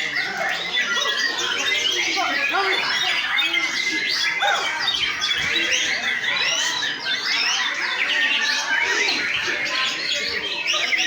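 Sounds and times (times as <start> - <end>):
chorus of songbirds singing: 0.0 - 11.0.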